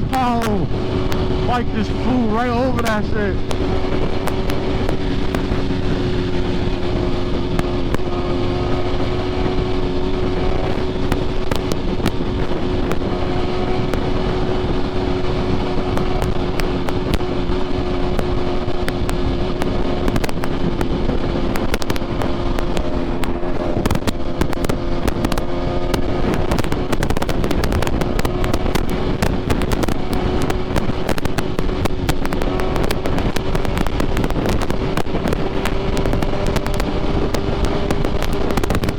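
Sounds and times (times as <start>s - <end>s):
exhaust crackle: 0.0s - 38.9s
sport motorcycle cruising: 0.0s - 38.9s.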